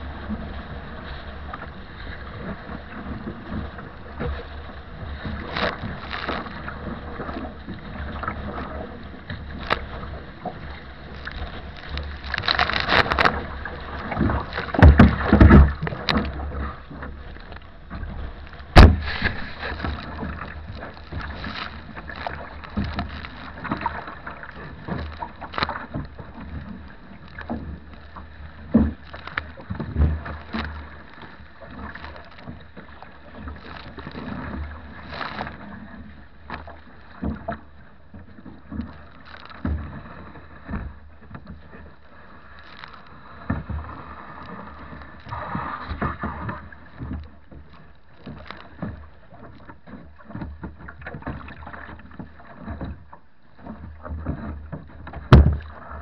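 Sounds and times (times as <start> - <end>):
water splashing against kayak: 0.0 - 56.0
waves thumping hull: 0.0 - 56.0.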